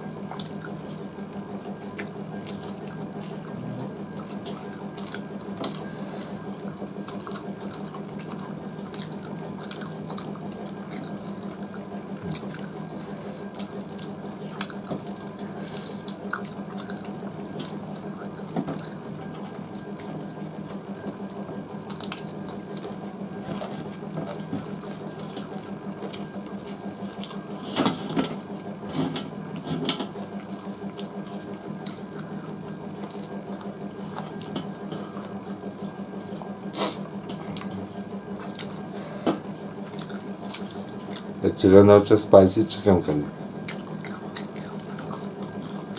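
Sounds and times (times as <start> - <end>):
low room hum: 0.0 - 45.9
moist chewing: 0.3 - 27.8, 28.4 - 41.6, 43.4 - 45.9.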